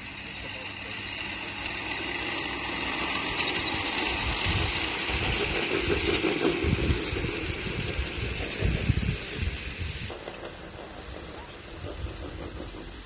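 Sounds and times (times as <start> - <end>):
model train motor humming: 0.0 - 13.0
wheels running on rails: 0.0 - 13.0.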